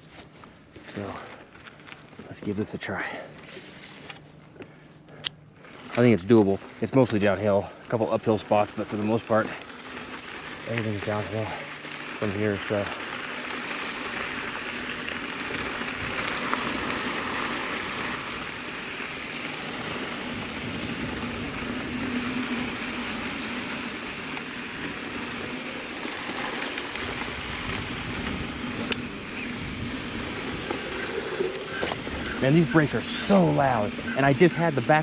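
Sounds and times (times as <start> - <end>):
tyres rolling over gravel: 0.8 - 4.9, 5.5 - 35.0.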